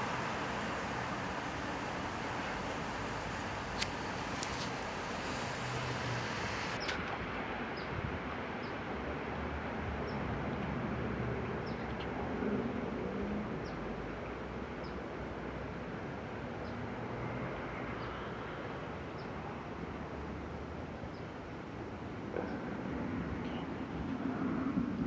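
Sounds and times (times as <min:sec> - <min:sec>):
distant traffic: 0:00.0 - 0:25.0
wind: 0:00.0 - 0:25.0.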